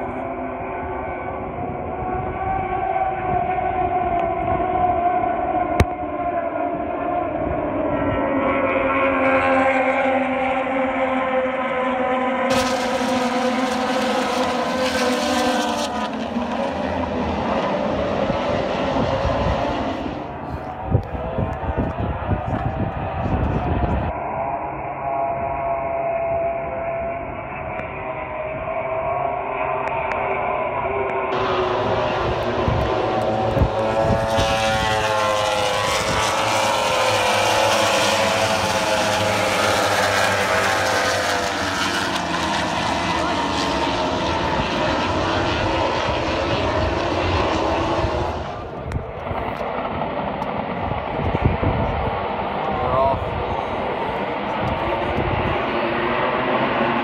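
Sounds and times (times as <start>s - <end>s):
racing motorcycles passing: 0.3s - 24.2s, 29.6s - 57.0s.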